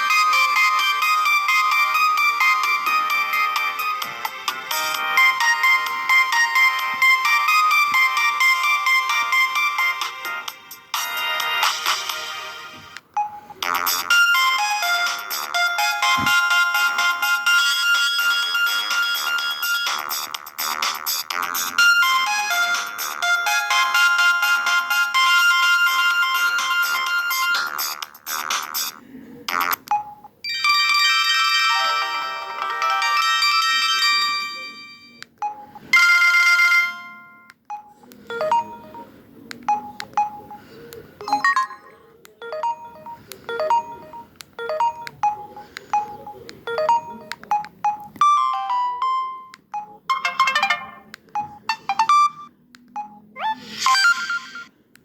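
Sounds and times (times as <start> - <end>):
phone ringtone melodies and chimes: 0.0 - 20.0, 21.8 - 27.7, 29.9 - 54.7.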